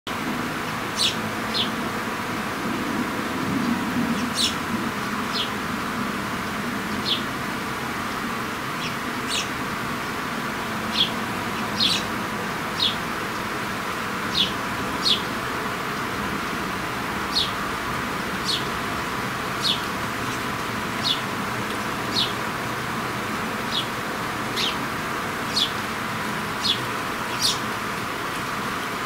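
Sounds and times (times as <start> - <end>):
steady background hiss: 0.1 - 29.0
sparrows chirping: 0.8 - 1.9, 3.0 - 29.0.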